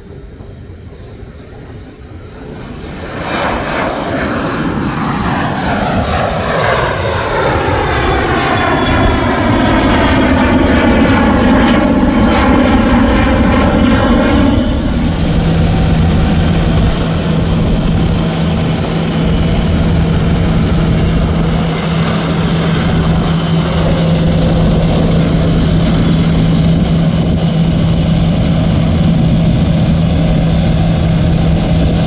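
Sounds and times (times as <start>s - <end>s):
jet engines roaring: 0.0s - 32.0s
low hum: 0.0s - 32.0s.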